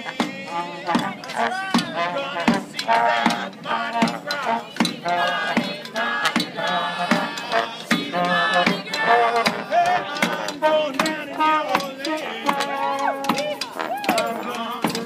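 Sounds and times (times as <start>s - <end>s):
bass drum beat: 0.0s - 15.0s
street brass band playing: 0.0s - 15.0s.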